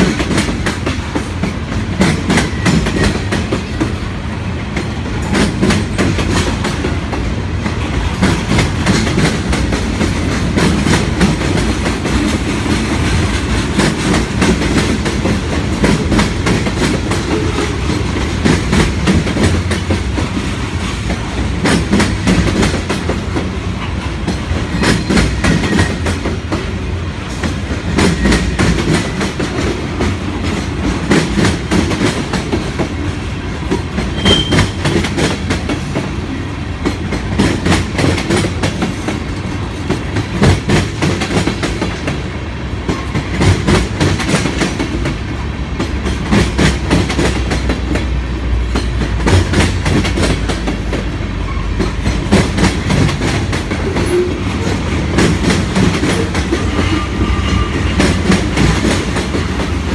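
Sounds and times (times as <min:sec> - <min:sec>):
train wheels rumbling on rail: 0:00.0 - 0:59.9
wheels clacking over rail joints: 0:00.0 - 0:59.9.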